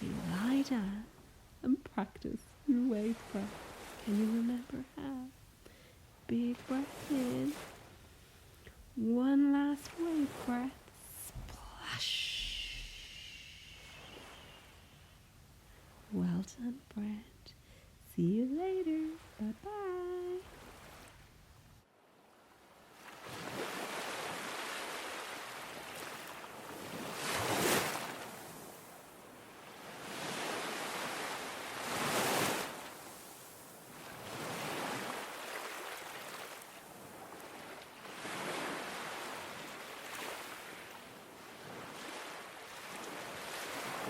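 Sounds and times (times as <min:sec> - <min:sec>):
ocean waves washing ashore: 0:02.5 - 0:16.2, 0:18.9 - 0:21.3, 0:21.9 - 0:44.0.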